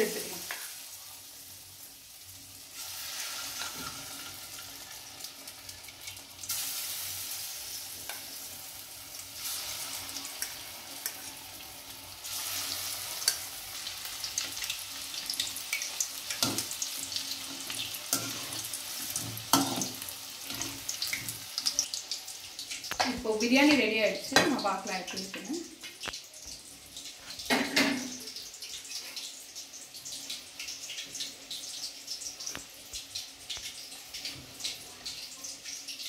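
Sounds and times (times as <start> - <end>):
chicken deep-frying in oil: 0.0 - 36.0.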